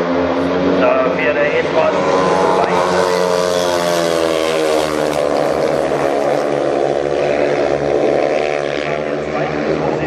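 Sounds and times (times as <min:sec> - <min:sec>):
motorcycles racing: 0:00.0 - 0:10.0.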